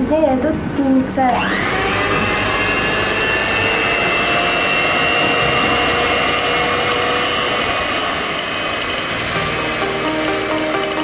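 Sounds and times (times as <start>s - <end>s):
electric mixer motor whine: 1.3s - 11.0s.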